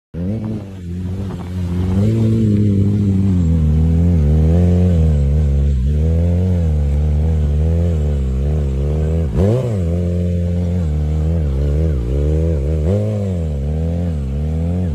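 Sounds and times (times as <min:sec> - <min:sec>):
motorcycle engine revving: 0:00.2 - 0:14.9.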